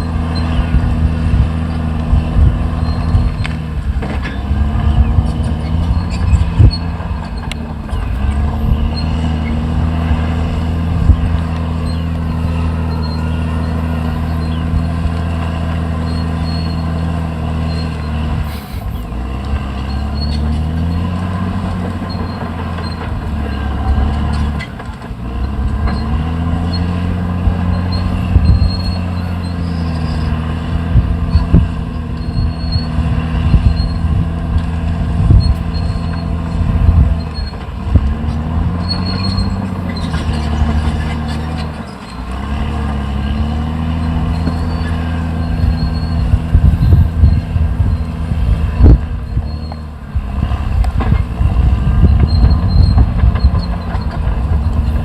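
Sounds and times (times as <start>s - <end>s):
bulldozer diesel engine labouring: 0.0s - 55.0s.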